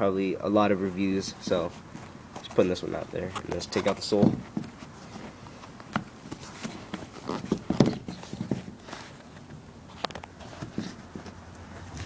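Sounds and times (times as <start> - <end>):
shoe handling scrapes and rustles: 0.9 - 12.0.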